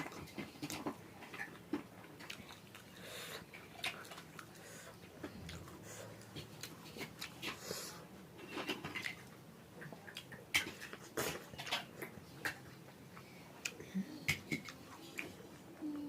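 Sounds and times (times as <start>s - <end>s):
chewing: 0.0s - 15.4s.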